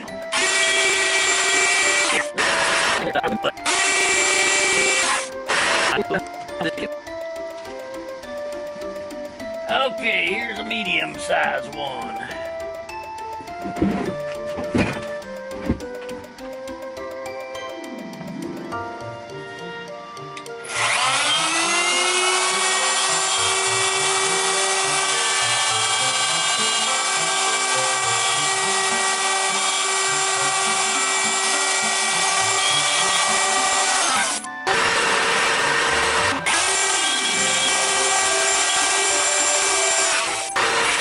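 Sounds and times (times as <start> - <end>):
wood router whining: 0.0 - 18.4, 19.1 - 41.0
quiet background music: 0.0 - 41.0.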